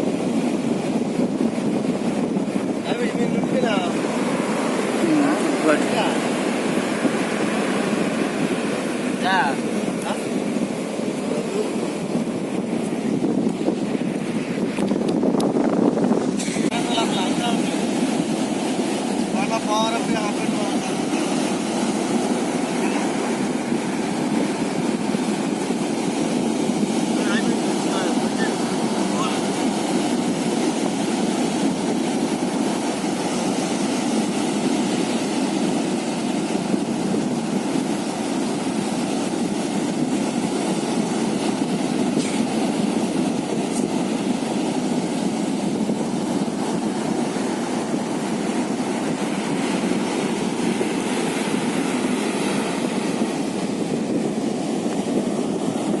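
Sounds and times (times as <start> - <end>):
boat motor droning: 0.0 - 56.0.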